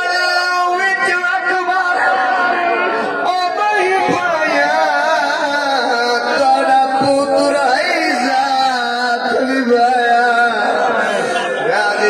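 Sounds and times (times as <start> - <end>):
man singing a lament: 0.0 - 12.0.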